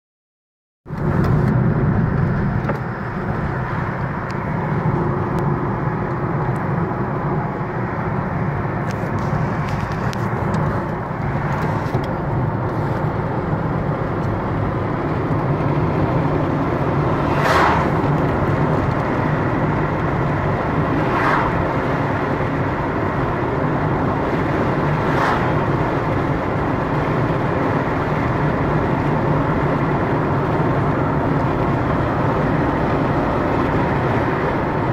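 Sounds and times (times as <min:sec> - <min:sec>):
car road and engine noise: 0:00.8 - 0:34.9.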